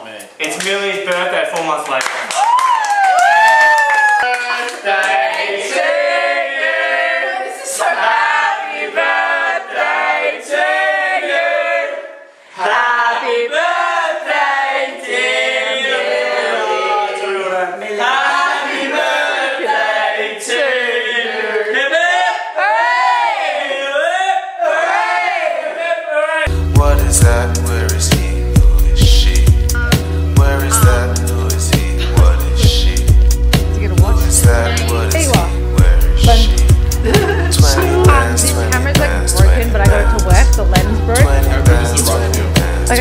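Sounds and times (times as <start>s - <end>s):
choir singing: 4.6s - 25.8s, 28.8s - 43.0s.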